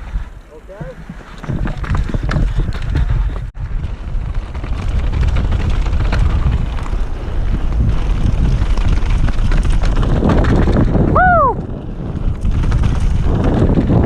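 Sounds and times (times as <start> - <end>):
wind buffeting microphone: 0.0 - 14.0
bike clattering on rocky ground: 0.7 - 11.1, 11.7 - 14.0.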